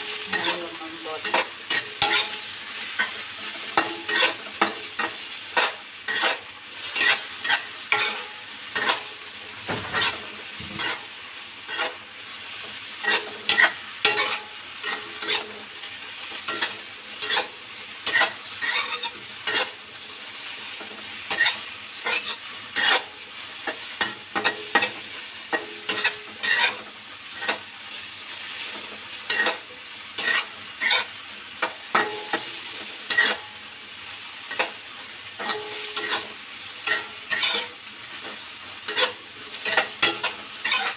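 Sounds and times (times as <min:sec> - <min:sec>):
metal spatula scraping wok: 0:00.0 - 0:12.0, 0:12.6 - 0:15.6, 0:16.4 - 0:27.7, 0:28.4 - 0:33.5, 0:34.4 - 0:40.9
eggplant sizzling in oil: 0:00.0 - 0:40.9.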